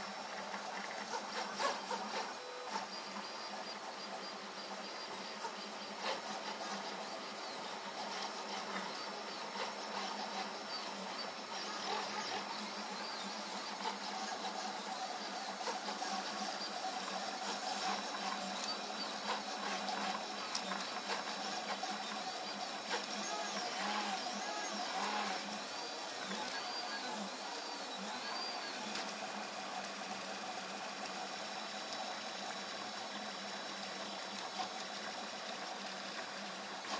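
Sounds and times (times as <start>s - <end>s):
stepper motors whining: 0.0s - 36.9s.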